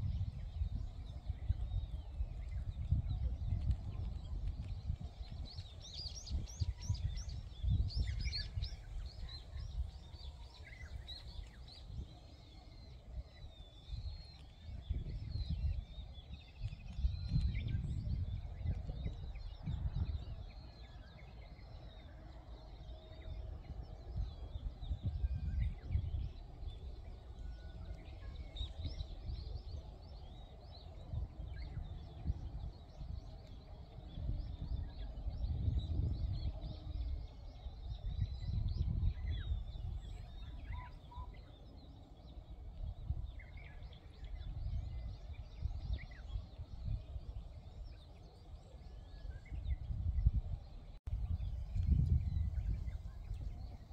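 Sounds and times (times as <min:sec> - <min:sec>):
small birds chirping: 0:00.0 - 0:53.9
wind buffeting microphone: 0:00.0 - 0:53.9.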